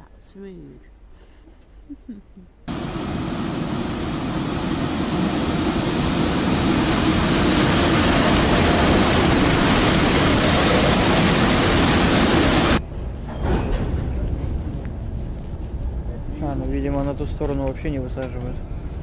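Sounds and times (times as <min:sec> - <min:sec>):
train passing close by: 0:02.7 - 0:19.0.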